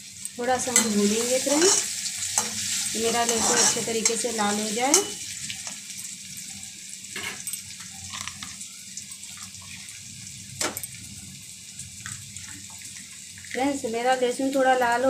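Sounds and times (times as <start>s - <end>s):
garlic sizzling in hot oil: 0.0s - 15.0s.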